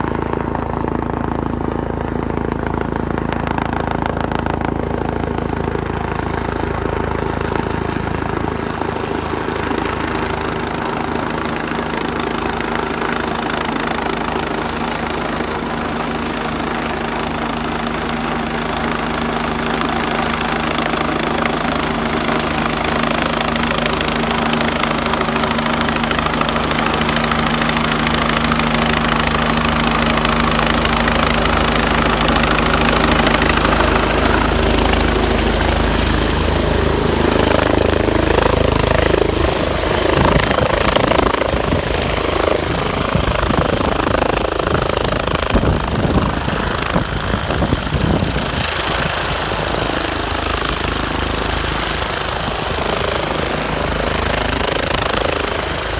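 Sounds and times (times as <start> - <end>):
helicopter rotor beat: 0.0 - 55.9
high turbine whine: 0.0 - 55.9.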